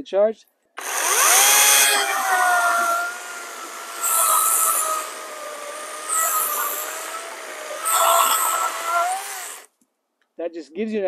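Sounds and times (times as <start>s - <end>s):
cordless chainsaw cutting log: 0.8s - 9.7s.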